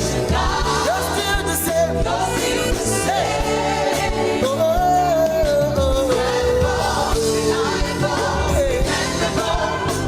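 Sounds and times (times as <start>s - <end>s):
choir-like voices: 0.0s - 4.9s, 6.0s - 10.0s
keyboard and drums: 0.0s - 10.0s.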